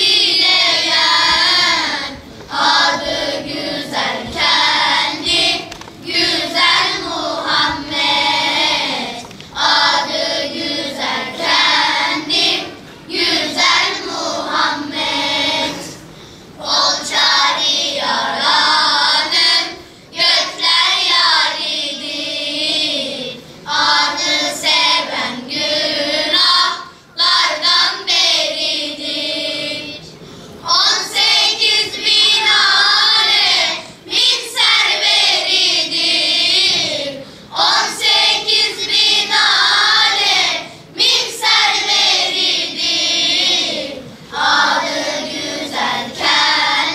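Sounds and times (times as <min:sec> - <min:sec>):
children's choir singing: 0:00.0 - 0:46.9.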